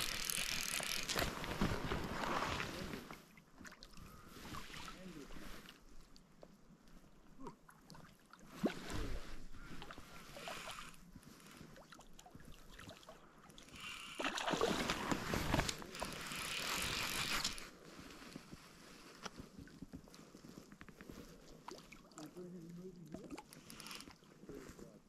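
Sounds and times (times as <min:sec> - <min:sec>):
water splashing and sloshing: 0:00.0 - 0:06.6, 0:07.3 - 0:17.9, 0:19.3 - 0:24.4.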